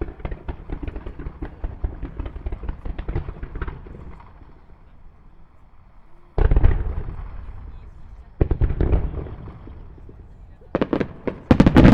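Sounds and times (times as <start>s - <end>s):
fireworks crackling: 0.0s - 11.9s.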